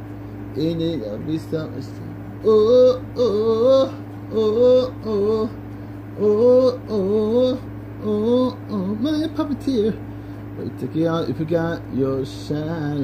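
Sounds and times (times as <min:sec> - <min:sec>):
steady low hum: 0:00.0 - 0:13.0
person singing pop song: 0:00.5 - 0:13.0.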